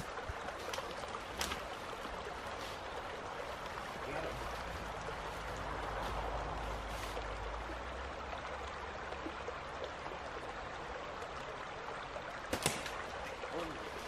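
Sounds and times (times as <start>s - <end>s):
creek running over rocks: 0.0s - 14.0s.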